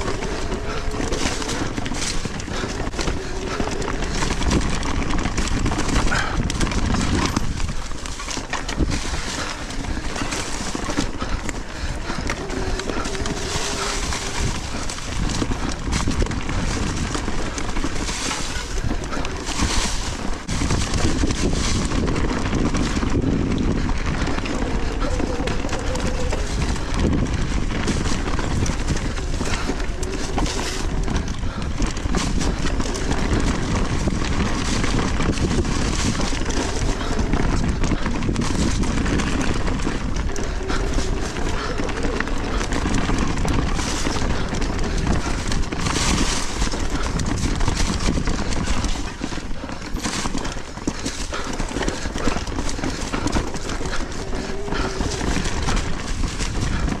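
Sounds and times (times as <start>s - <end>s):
bike rattling and knocking: 0.0s - 57.0s
bike tyre noise on dirt: 0.0s - 57.0s.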